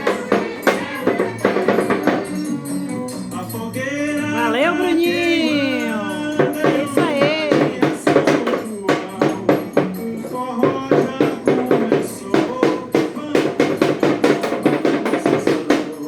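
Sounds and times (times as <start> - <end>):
music with quick percussive beat: 0.0 - 16.0.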